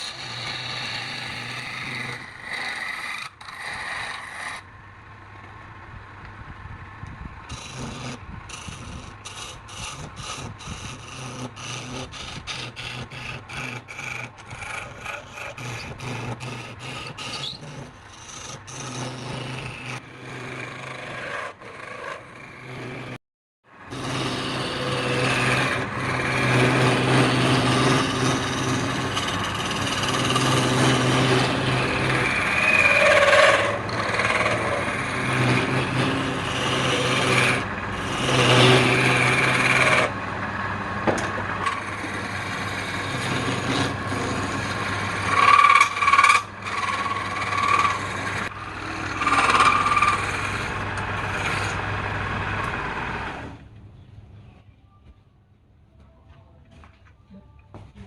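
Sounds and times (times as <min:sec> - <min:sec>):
rasp scraping wood: 0:00.0 - 0:04.7, 0:07.5 - 0:23.2, 0:23.9 - 0:53.5
tool scraping wood: 0:00.0 - 0:04.7, 0:07.4 - 0:23.2, 0:23.9 - 0:53.6
woodworking machine motor hum: 0:00.0 - 0:23.2, 0:23.8 - 0:53.7.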